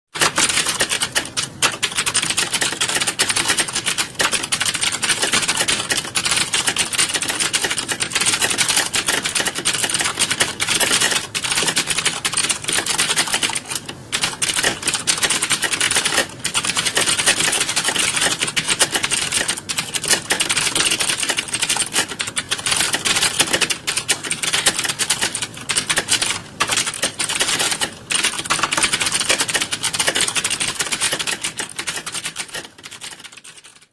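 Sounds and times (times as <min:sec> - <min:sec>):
fast typing on keyboard: 0:00.2 - 0:33.9.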